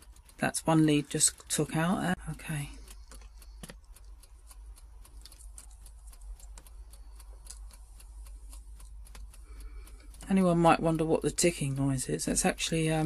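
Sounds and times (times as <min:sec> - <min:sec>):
clockwork timer ticking: 0:00.0 - 0:13.0.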